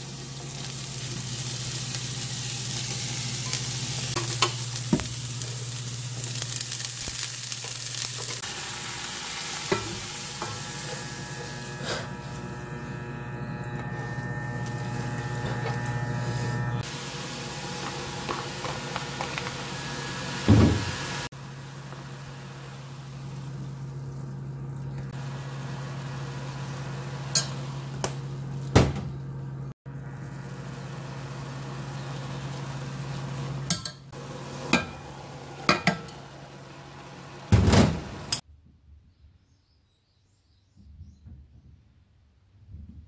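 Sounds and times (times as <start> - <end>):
electric cooktop hum: 0.0 - 38.4.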